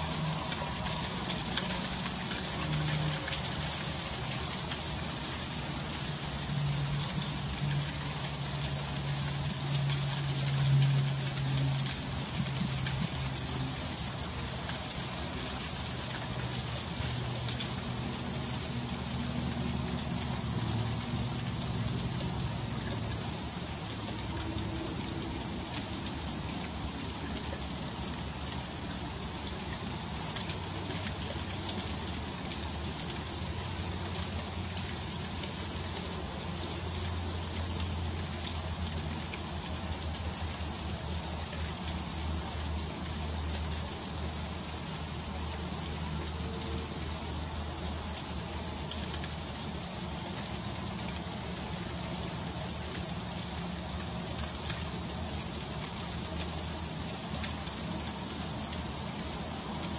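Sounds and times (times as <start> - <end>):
freezing rain pattering: 0.0 - 59.9.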